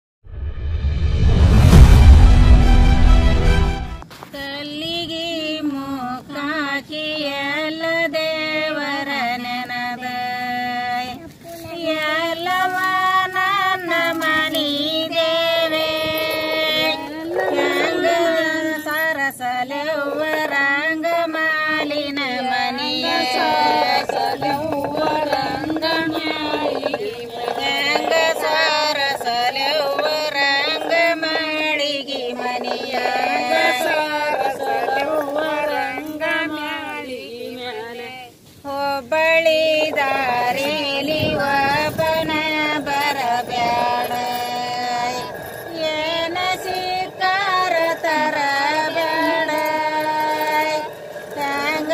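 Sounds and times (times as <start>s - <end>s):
women singing folk song: 3.4s - 51.9s.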